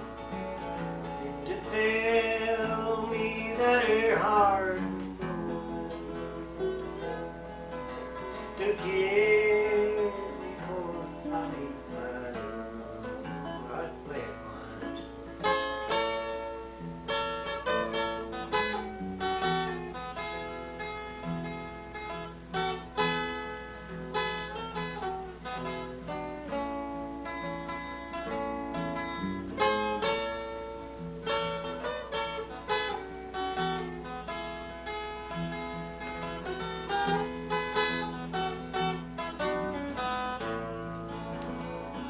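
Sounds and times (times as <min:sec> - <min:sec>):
acoustic guitar picked melody: 0:00.0 - 0:42.0.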